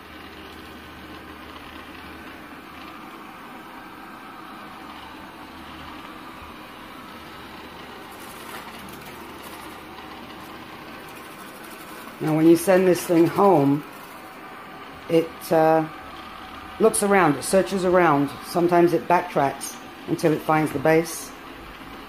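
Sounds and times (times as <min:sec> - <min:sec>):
robot vacuum motor hum: 0:00.0 - 0:22.0.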